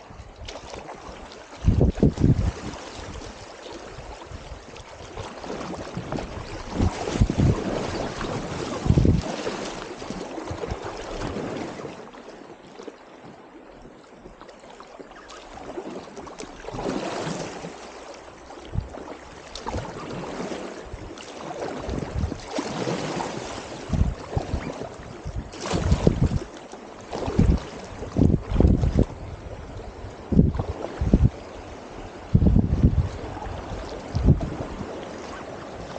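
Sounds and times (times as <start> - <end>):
creek water rushing and splashing: 0.0 - 35.9.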